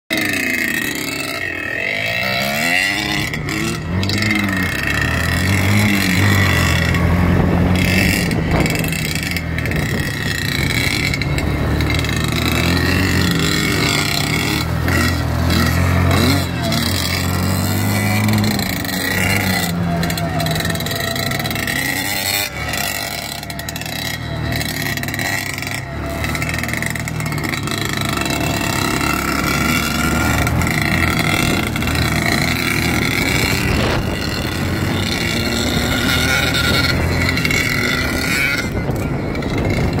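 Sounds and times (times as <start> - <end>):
dirt bike engines revving: 0.1 - 40.0.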